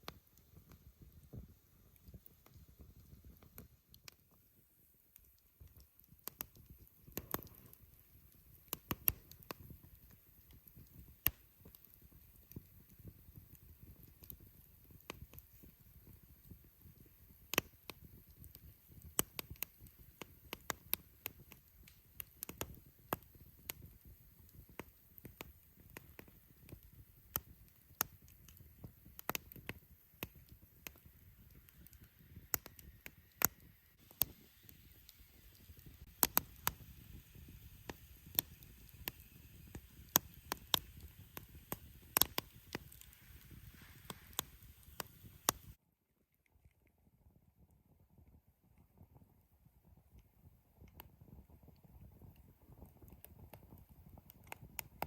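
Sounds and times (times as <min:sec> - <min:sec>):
campfire crackling and popping: 0:00.0 - 0:45.8, 0:50.1 - 0:55.0.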